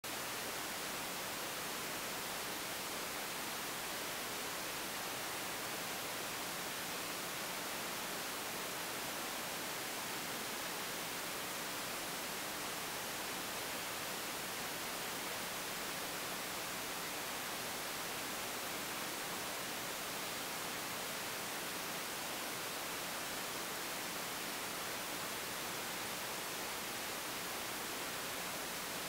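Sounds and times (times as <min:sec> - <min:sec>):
recording static hiss: 0:00.0 - 0:29.0.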